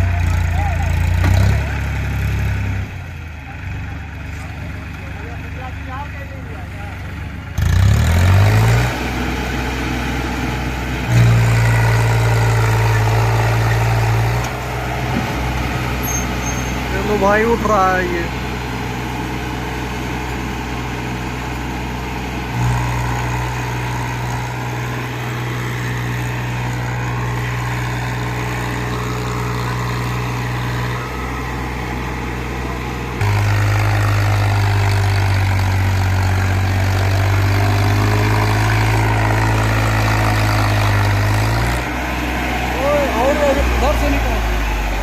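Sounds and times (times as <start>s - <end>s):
tractor diesel engine straining: 0.0s - 45.0s.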